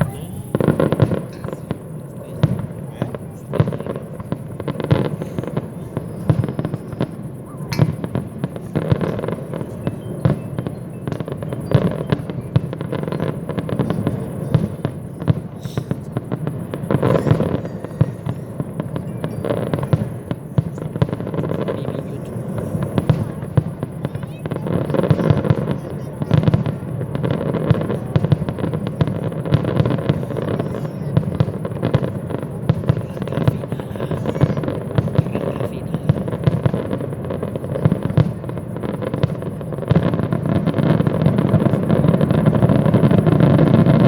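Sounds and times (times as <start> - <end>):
fireworks bursting and crackling: 0.0 - 44.0.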